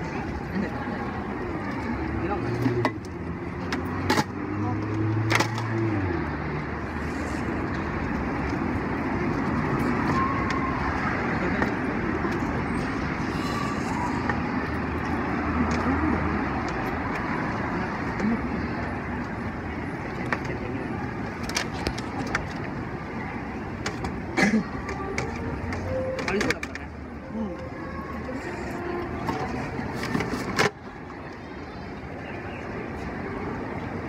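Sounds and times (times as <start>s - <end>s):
faint voices: 0.0s - 34.0s
street traffic noise: 0.0s - 34.0s.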